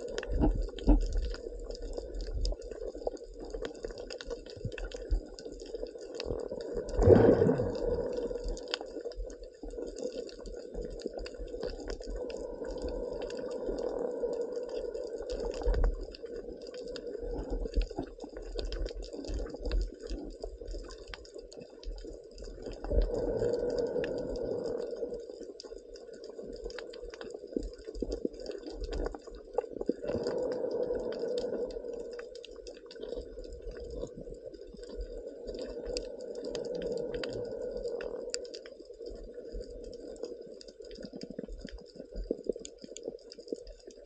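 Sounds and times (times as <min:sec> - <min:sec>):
muffled underwater water rushing: 0:00.0 - 0:44.0
underwater crackles: 0:00.0 - 0:44.0.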